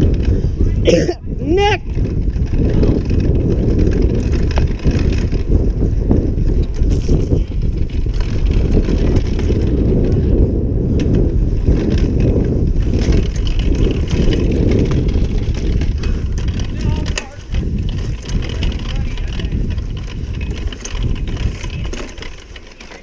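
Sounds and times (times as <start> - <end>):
bike tyres and frame rattling: 0.0 - 23.0
wind rumbling on microphone: 0.0 - 23.0.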